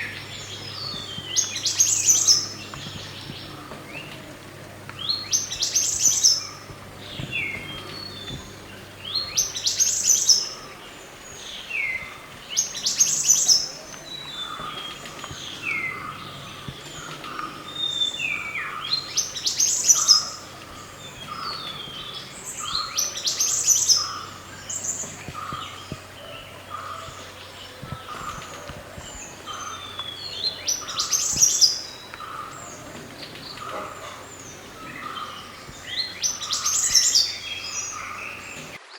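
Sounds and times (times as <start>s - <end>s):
songbird singing sweeping phrases: 0.0s - 4.2s, 4.8s - 38.9s.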